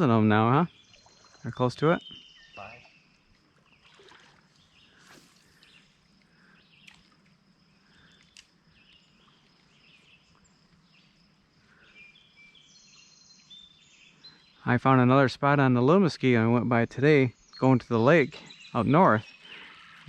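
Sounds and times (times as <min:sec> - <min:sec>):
faint bird chirps: 0:00.1 - 0:14.8, 0:17.1 - 0:20.0.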